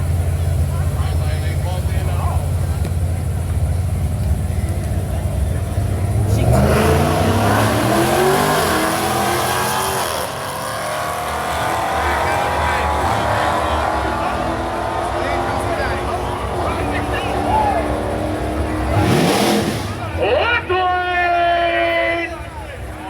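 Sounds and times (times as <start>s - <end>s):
race car engine accelerating: 0.0s - 20.2s.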